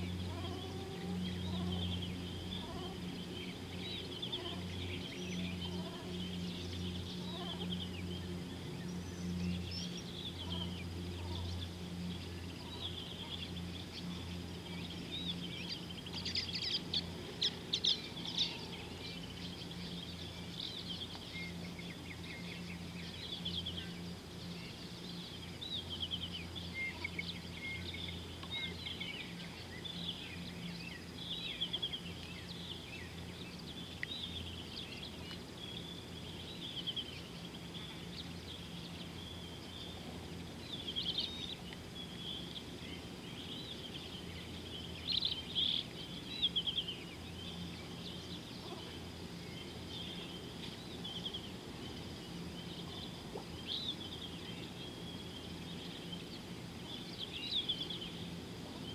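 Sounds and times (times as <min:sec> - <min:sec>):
birds chirping: 0:00.0 - 0:58.9
steady low hum: 0:00.0 - 0:58.9.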